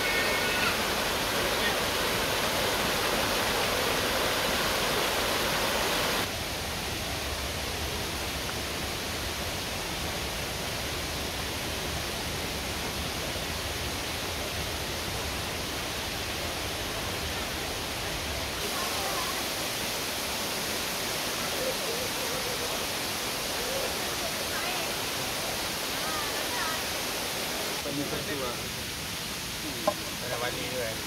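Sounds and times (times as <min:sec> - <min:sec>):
forest stream running over cascades: 0:00.0 - 0:31.0
steady hiss: 0:00.0 - 0:31.0.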